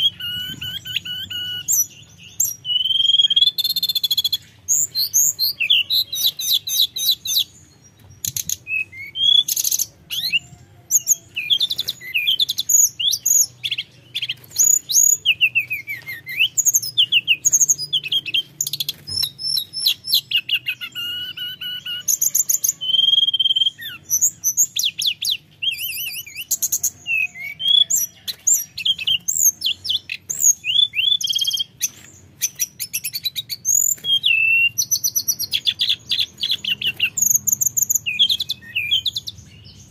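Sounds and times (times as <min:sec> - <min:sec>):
bird singing whistled phrases: 0:00.0 - 0:39.8.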